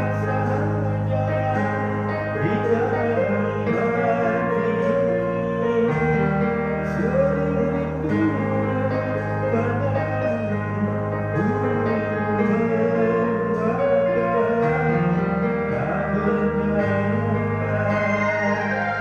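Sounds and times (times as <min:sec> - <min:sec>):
backing track with bass chords: 0:00.0 - 0:19.0
man singing into a microphone: 0:00.0 - 0:19.0.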